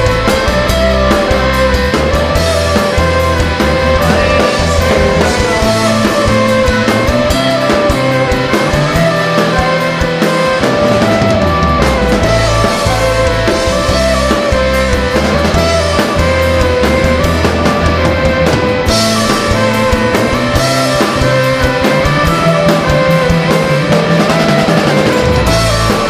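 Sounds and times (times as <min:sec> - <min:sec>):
drum kit: 0:00.0 - 0:26.0
live rock band playing: 0:00.0 - 0:26.0.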